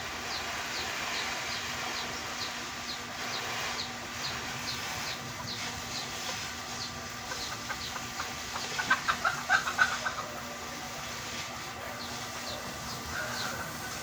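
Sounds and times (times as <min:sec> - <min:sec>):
chickens clucking: 0:00.4 - 0:14.0.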